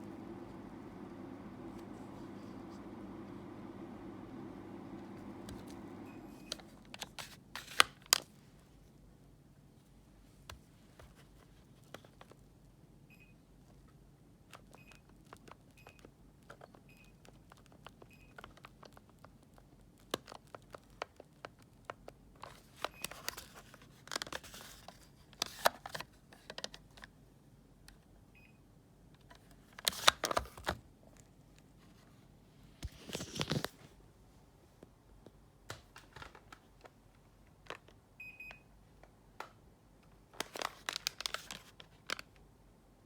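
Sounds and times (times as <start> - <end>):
rustling and handling noise: 0.0 - 9.1, 9.7 - 12.6, 13.7 - 27.2, 29.2 - 38.1, 39.0 - 42.5.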